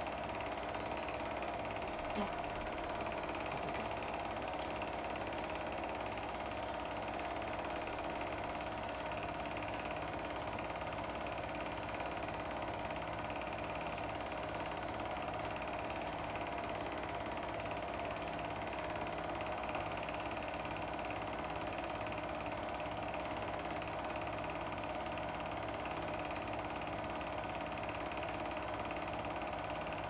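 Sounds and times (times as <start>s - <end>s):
film projector rattling: 0.0s - 30.0s.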